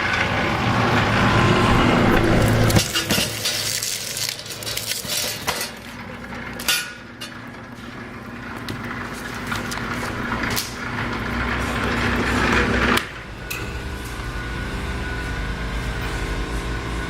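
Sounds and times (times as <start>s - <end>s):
cable machine rollers working: 0.0s - 17.0s
motor humming: 0.0s - 17.0s.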